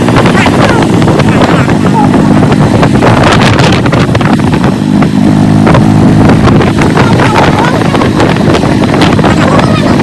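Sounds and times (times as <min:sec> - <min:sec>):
vehicle engine running: 0:00.0 - 0:10.0
wind buffeting microphone: 0:00.0 - 0:10.0.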